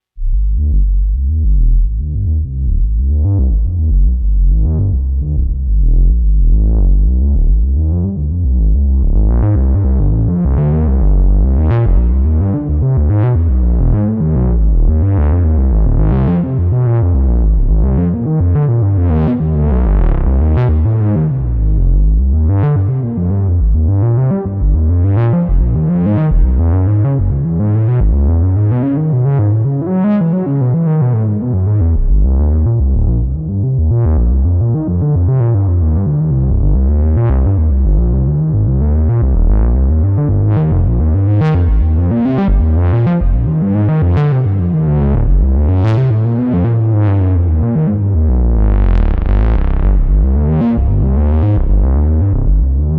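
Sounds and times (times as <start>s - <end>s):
synthesizer bass notes: 0.0s - 52.9s.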